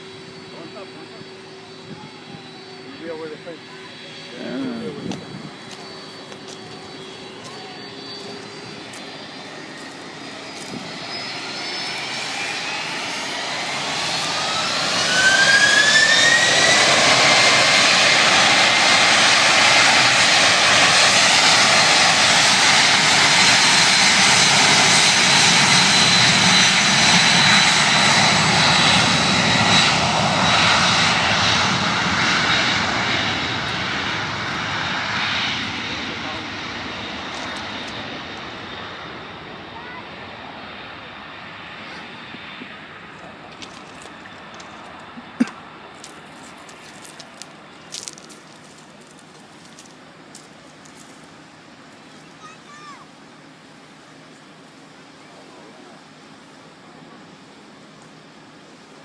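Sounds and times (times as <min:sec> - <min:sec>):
airplane engines spooling up: 0:00.0 - 0:59.0.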